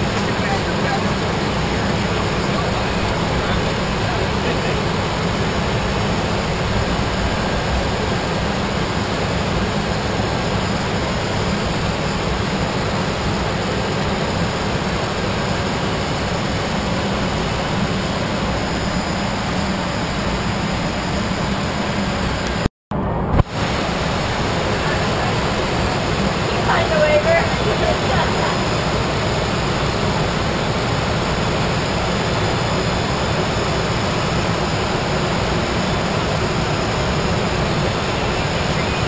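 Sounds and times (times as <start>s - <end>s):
jet cockpit airflow and engine hum: 0.0s - 39.0s.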